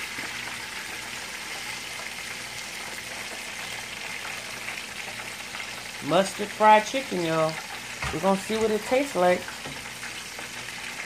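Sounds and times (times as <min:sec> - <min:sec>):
oil sizzling deep-frying: 0:00.0 - 0:11.0.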